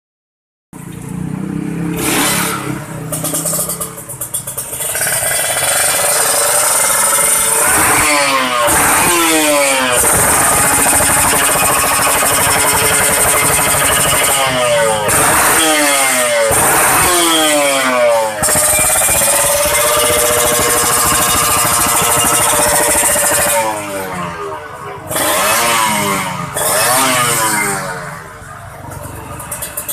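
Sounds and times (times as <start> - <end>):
two-stroke motorcycle engine revving: 0.8 - 29.9.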